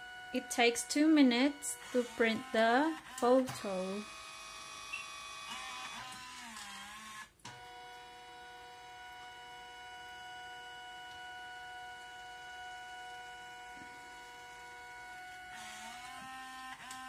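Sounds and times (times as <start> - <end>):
printer motor whining: 0.0 - 17.0.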